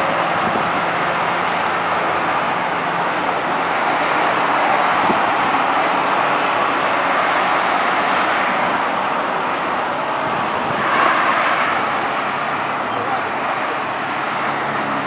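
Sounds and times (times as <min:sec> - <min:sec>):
sports cars driving past: 0:00.0 - 0:15.0.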